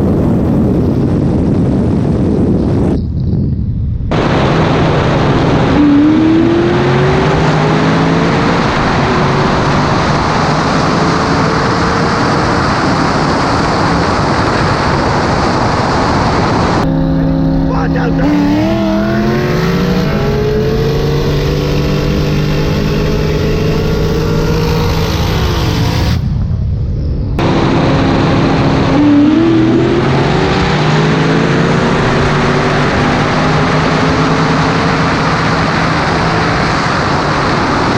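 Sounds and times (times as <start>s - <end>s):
car engine at full throttle: 0.0s - 37.9s
wind and road roar: 0.0s - 37.9s
loud rushing noise: 4.0s - 37.9s.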